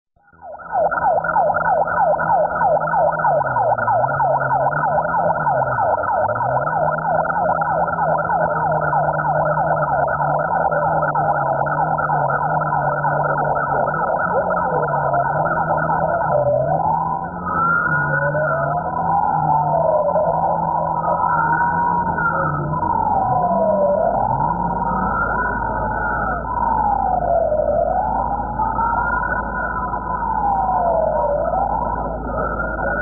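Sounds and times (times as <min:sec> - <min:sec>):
siren yelping: 0:00.2 - 0:33.0.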